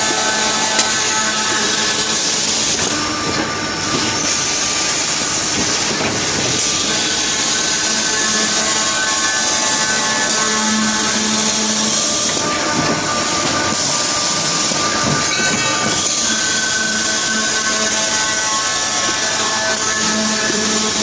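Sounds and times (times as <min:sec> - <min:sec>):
circular saw cutting pipe: 0:00.0 - 0:21.0.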